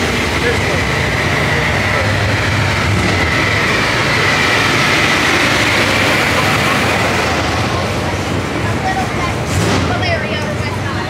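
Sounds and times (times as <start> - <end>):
machine drone: 0.0 - 11.0.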